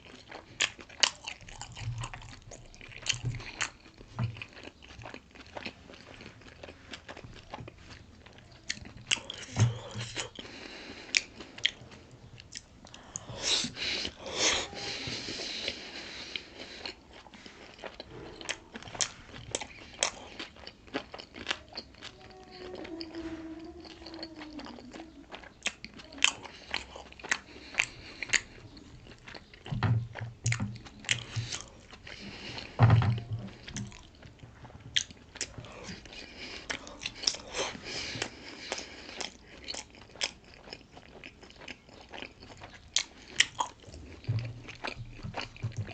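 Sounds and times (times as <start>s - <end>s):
wet chewing and biting: 0.0s - 14.4s, 15.7s - 45.9s.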